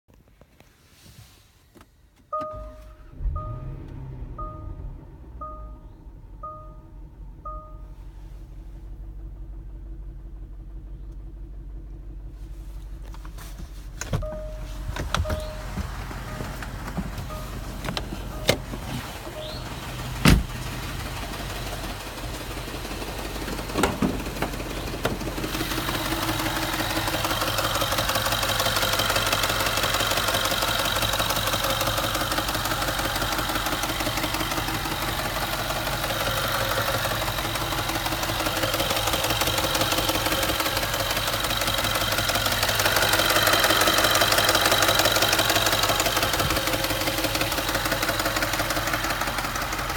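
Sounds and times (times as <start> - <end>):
engine idling with knocking: 5.4 - 49.9.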